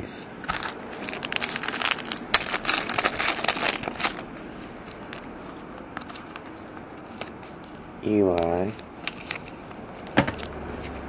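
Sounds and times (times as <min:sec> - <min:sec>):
trading cards rustling: 0:00.5 - 0:11.0.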